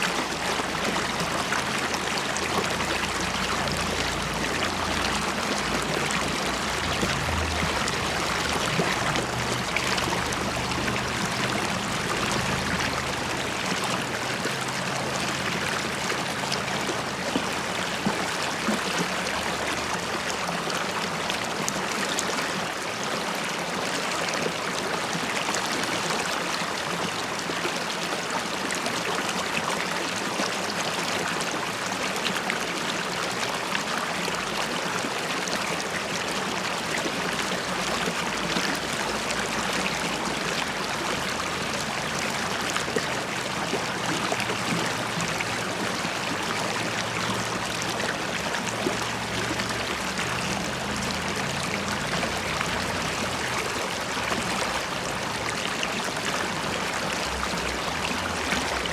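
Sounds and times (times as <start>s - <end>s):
river water flowing and bubbling: 0.0s - 58.9s.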